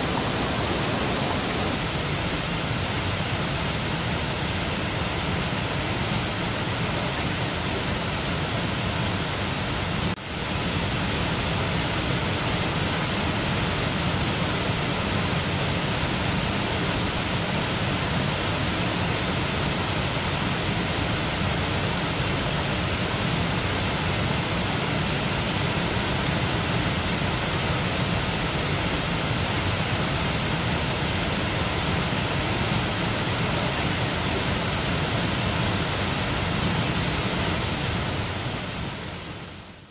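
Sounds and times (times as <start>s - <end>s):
waterfall rushing into pool: 0.0s - 39.9s.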